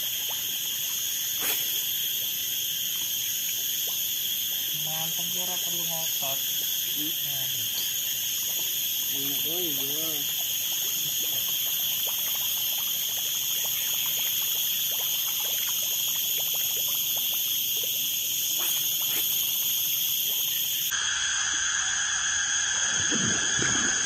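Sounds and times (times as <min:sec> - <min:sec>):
high-pitched insect chorus: 0:00.0 - 0:24.0
frog calls: 0:00.8 - 0:14.8, 0:16.8 - 0:23.2.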